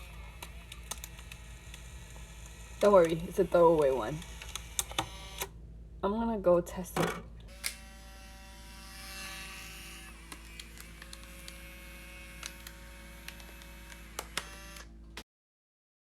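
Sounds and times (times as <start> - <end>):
steady electrical hum: 0.0 - 15.2.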